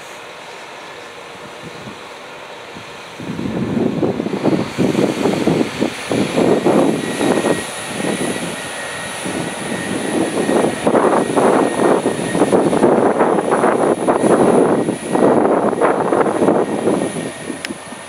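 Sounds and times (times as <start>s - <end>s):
diesel train engines pulling away: 0.0s - 18.0s
faint high whine: 0.0s - 18.0s
wind buffeting microphone: 1.3s - 2.1s, 2.7s - 18.0s.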